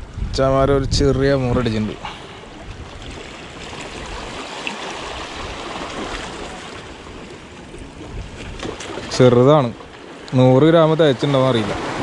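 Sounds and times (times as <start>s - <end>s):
water rushing: 1.4s - 12.0s.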